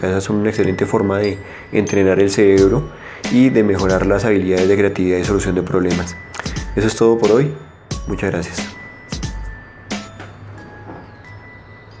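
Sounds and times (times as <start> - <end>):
bell-like chime notes: 0.0 - 12.0.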